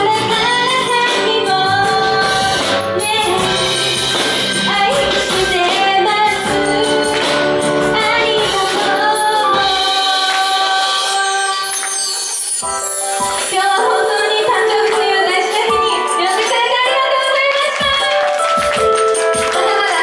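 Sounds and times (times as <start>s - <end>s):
woman singing pop song: 0.0s - 12.1s, 13.4s - 18.2s, 19.5s - 20.0s
instrumental accompaniment with beat: 0.0s - 20.0s.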